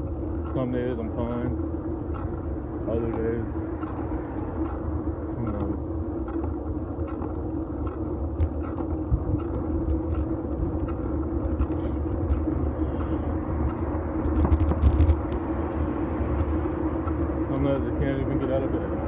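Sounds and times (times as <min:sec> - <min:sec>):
ticks and knocks from bumps: 0:00.0 - 0:18.6
bike tyres and drivetrain rumble: 0:00.0 - 0:19.0.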